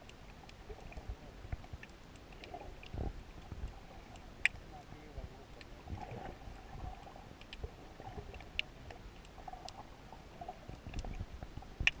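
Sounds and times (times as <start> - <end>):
muffled underwater rumble: 0.0 - 12.0
underwater clicks and ticks: 0.0 - 12.0.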